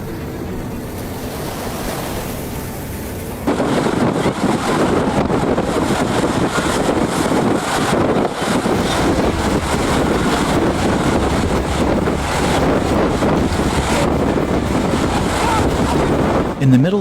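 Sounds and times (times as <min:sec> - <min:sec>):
waves washing: 0:00.0 - 0:17.0
wind buffeting microphone: 0:00.0 - 0:17.0.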